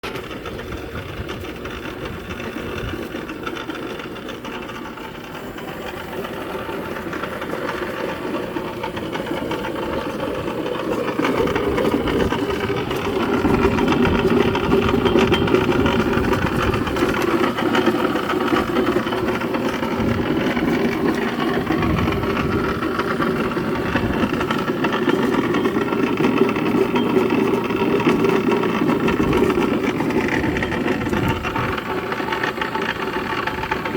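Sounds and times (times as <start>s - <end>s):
pipe threading machine drone: 0.0s - 33.9s.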